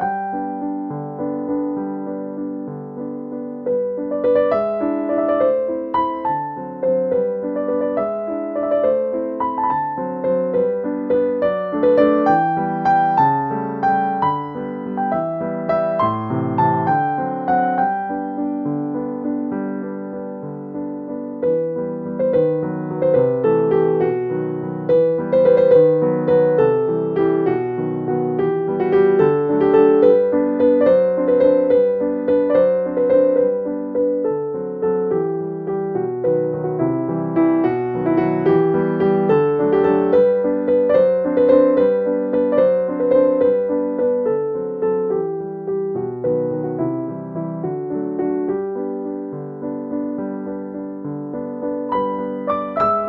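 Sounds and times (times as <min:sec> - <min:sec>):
gentle piano melody: 0:00.0 - 0:53.0.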